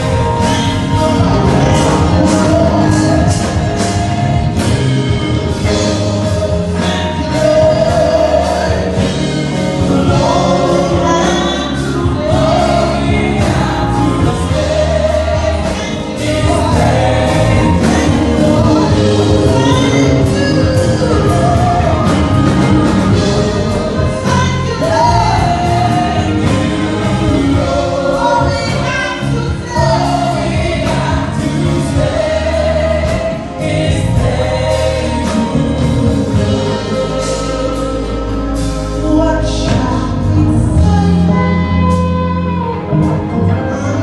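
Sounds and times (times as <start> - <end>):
band with keyboard guitar drums: 0.0 - 44.0
group singing in harmony: 0.0 - 44.0.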